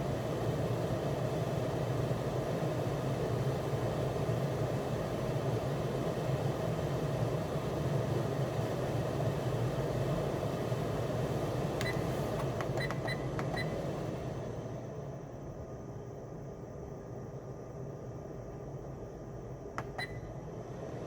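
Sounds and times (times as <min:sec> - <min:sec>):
blower fan humming: 0:00.0 - 0:21.0.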